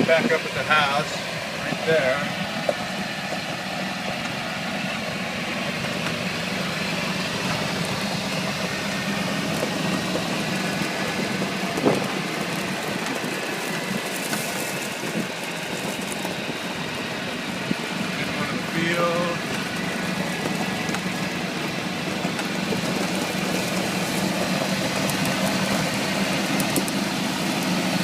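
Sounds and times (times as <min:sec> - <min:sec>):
golf cart motor running: 0:00.0 - 0:28.0.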